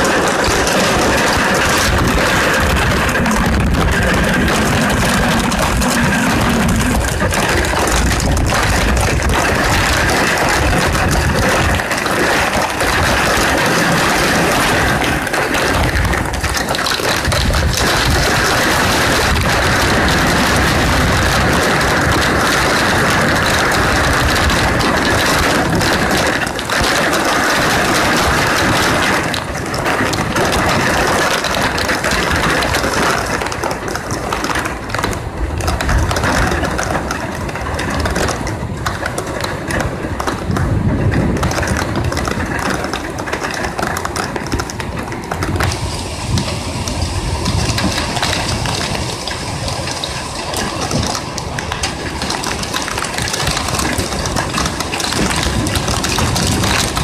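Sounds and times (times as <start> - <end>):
heavy rain on a ledge: 0.0 - 57.0
rain hitting phone: 0.0 - 57.0.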